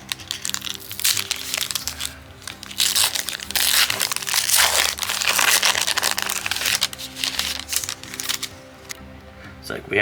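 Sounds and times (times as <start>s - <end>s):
plastic wrapper crinkling: 0.0s - 9.0s
soft background music: 0.0s - 10.0s.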